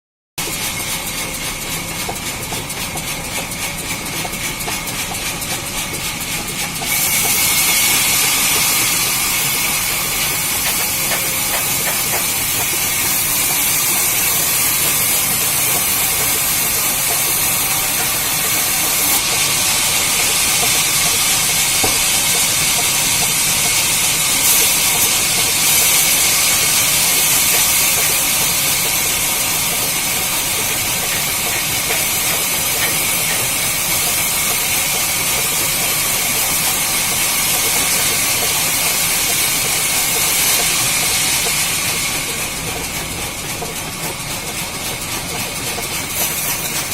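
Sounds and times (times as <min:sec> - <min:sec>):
saw cutting through log: 0:00.4 - 0:46.9.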